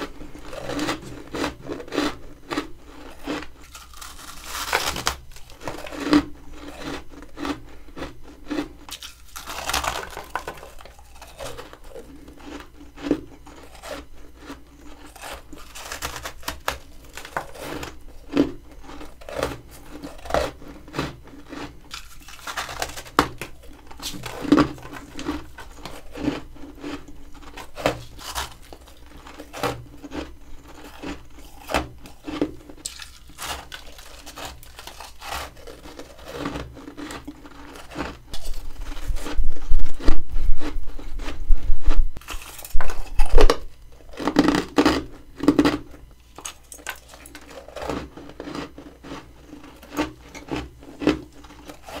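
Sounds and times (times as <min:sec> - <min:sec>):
crunching frozen frost: 0:00.0 - 0:52.0.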